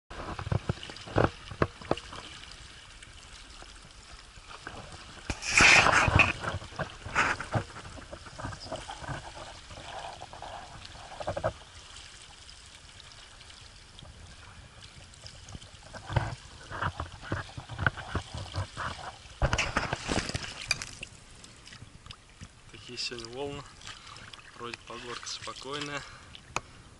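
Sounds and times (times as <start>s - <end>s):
paddle strokes in water: 0.1s - 26.8s
water splashing around boat: 0.1s - 26.9s.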